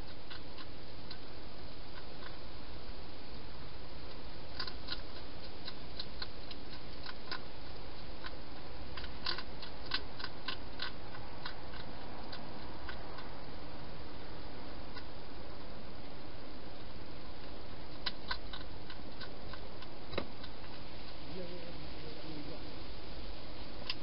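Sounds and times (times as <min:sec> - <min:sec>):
hedgehog chewing food: 0:00.0 - 0:22.2
steady hiss: 0:00.0 - 0:24.0.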